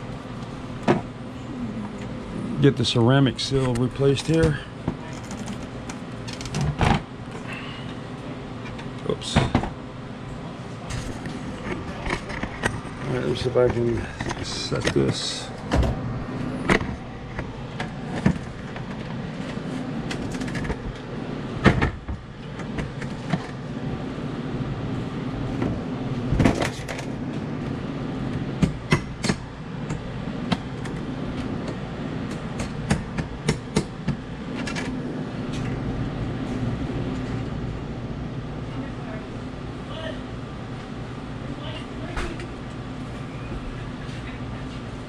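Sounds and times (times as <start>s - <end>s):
low machine hum: 0.0s - 45.0s.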